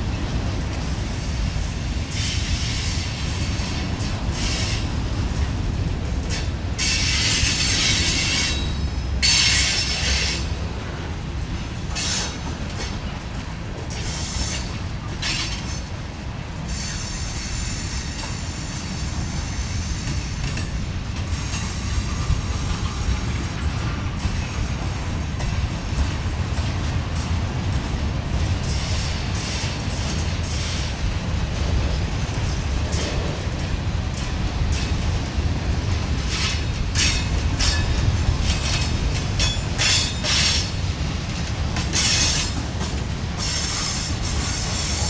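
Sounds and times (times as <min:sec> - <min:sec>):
steel wheels rumbling on rail: 0:00.0 - 0:45.0.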